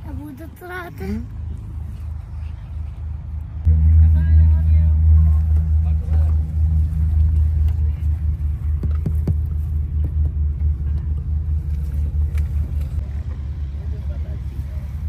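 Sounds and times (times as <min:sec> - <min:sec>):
low engine rumble with flutter: 0:00.0 - 0:15.0.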